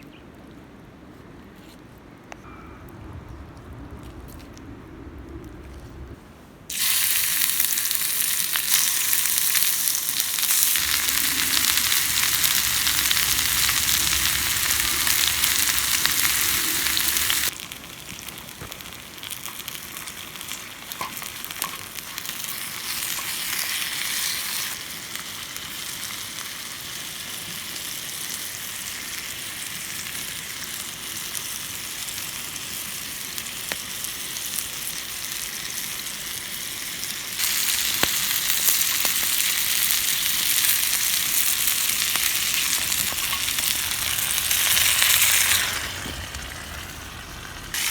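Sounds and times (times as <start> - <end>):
potatoes sizzling in a skillet: 6.7 - 47.9.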